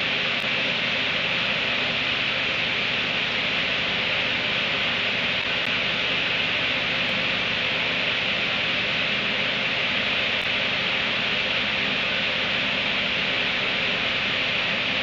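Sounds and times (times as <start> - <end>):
steady loud hiss: 0.0 - 15.0.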